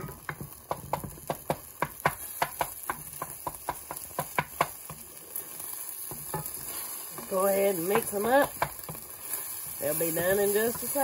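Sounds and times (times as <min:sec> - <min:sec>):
eggs sizzling in butter: 0:00.0 - 0:11.0
wooden spatula tapping skillet: 0:00.0 - 0:11.0.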